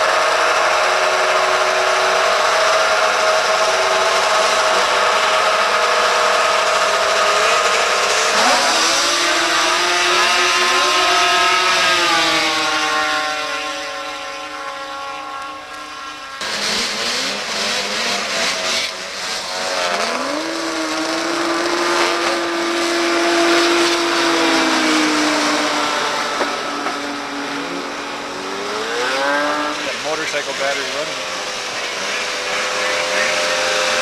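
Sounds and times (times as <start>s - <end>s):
snowmobile engines at full throttle: 0.0s - 34.0s.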